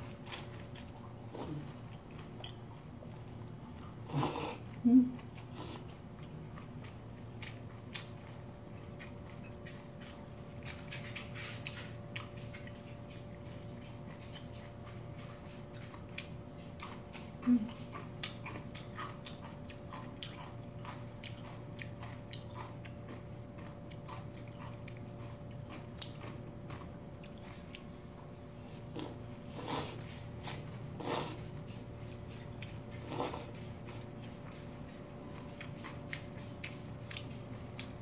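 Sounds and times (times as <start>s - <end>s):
chewing: 0.0s - 38.0s
faint steady hum: 0.0s - 38.0s.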